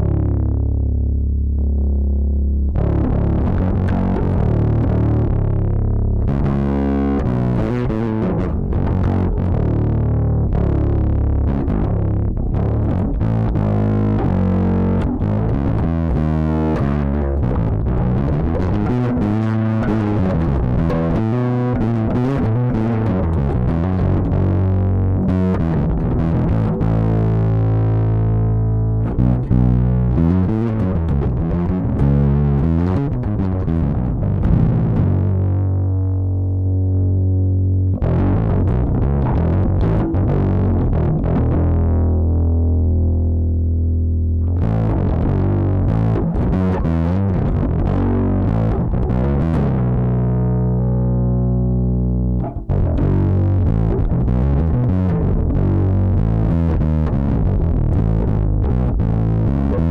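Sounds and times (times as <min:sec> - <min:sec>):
distorted electric bass guitar: 0:00.0 - 0:59.9.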